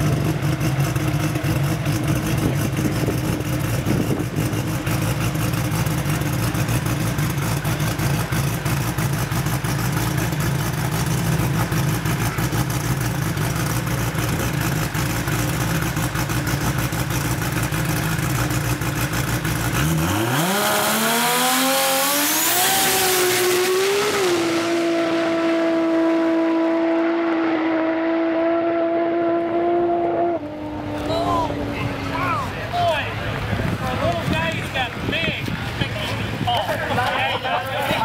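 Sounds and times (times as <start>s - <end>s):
race car engine revving: 0.0s - 37.1s.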